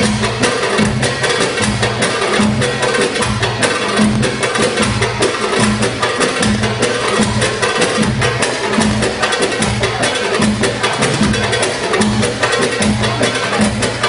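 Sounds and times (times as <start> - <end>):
belly dance music: 0.0 - 14.0.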